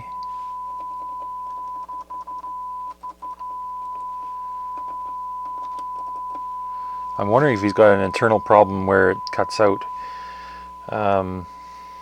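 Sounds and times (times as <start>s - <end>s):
steady test tone: 0.0s - 12.0s.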